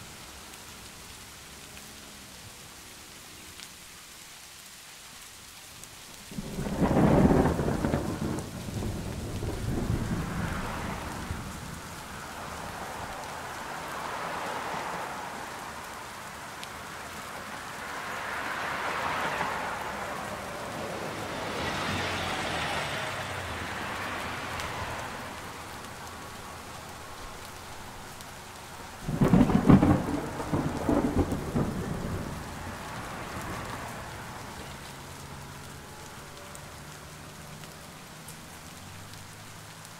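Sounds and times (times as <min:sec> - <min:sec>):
steady rain: 0:00.0 - 0:39.9
tyres hissing on wet road: 0:00.0 - 0:39.9.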